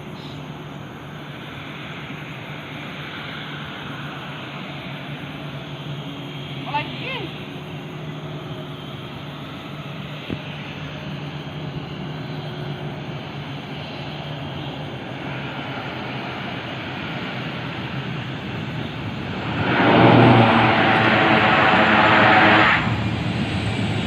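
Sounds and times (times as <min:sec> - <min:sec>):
turboprop aircraft engine running: 0:00.0 - 0:24.0.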